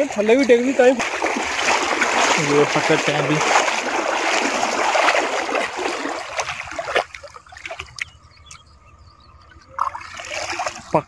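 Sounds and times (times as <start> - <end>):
river water splashing: 0.0 - 8.7, 9.4 - 11.0
water dripping and trickling: 0.0 - 8.7, 9.4 - 11.0.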